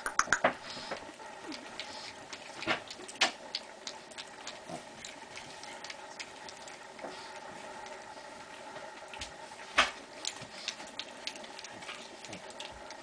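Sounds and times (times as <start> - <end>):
puppies chewing and lapping: 0.0 - 13.0.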